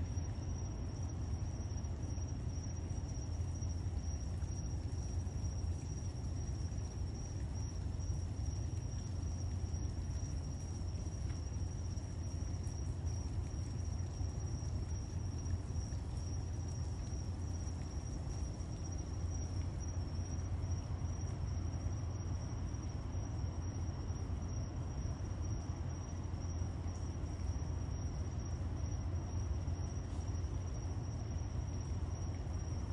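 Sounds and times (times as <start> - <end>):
insects trilling: 0.0 - 32.9.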